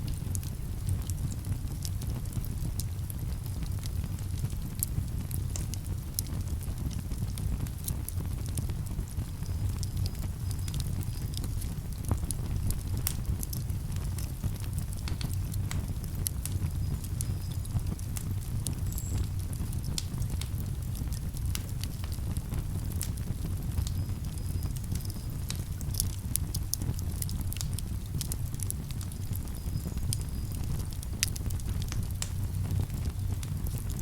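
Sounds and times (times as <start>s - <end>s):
campfire wood crackling: 0.0s - 34.0s
steady low rumble: 1.6s - 34.0s.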